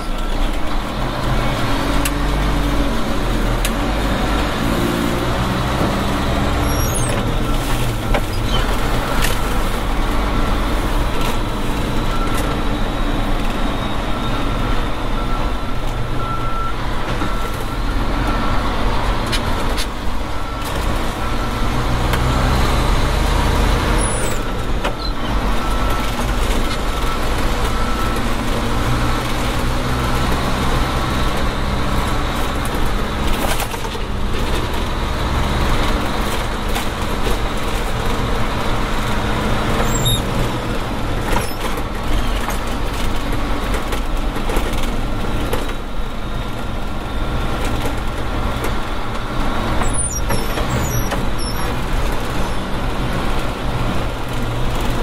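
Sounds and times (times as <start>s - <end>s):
diesel engine heard from cab: 0.0s - 55.0s.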